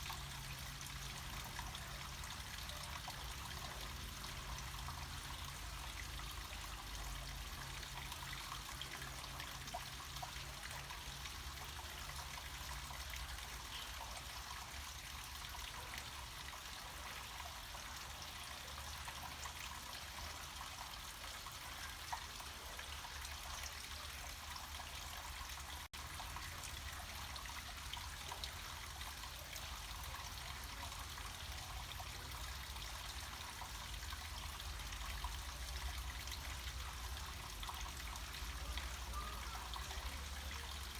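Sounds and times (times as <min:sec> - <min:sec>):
stream water trickling: 0:00.0 - 0:40.9.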